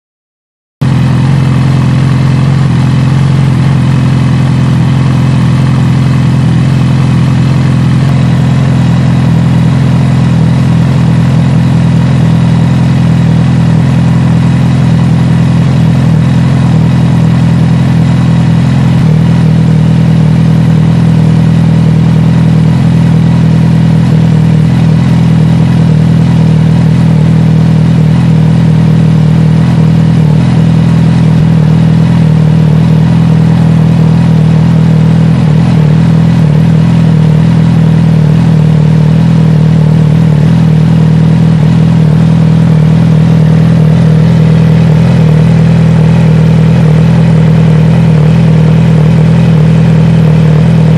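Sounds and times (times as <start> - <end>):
motorcycle engine idling: 0.8 - 50.9.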